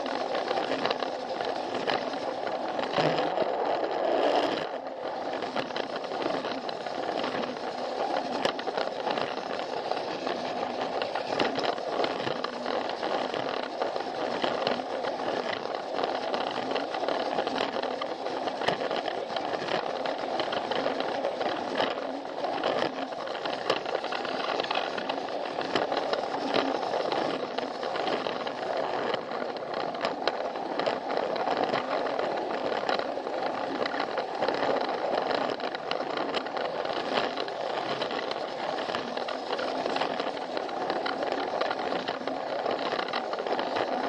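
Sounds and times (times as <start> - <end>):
plastic wheels rattling: 0.0 - 44.0
toy train motor whirring: 0.0 - 44.0.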